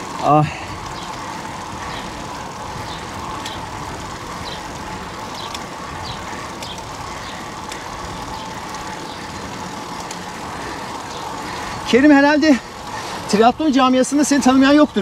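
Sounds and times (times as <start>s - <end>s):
bike tyres on asphalt: 0.0s - 15.0s.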